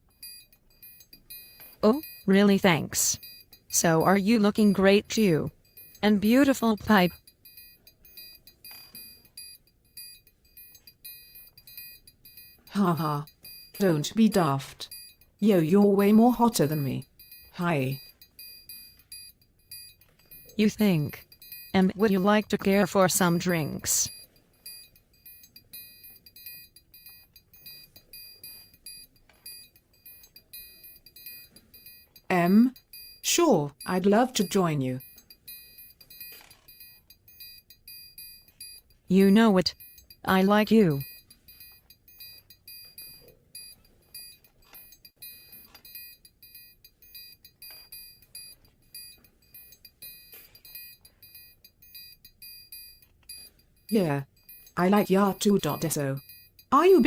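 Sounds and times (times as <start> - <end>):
high-pitched electronic beeping: 0.1 - 57.0.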